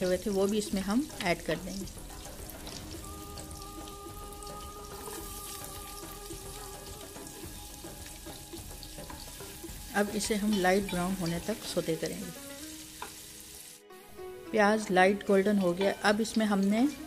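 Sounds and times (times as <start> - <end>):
onions sizzling in frying pan: 0.0 - 13.8
soft background music: 0.0 - 17.0.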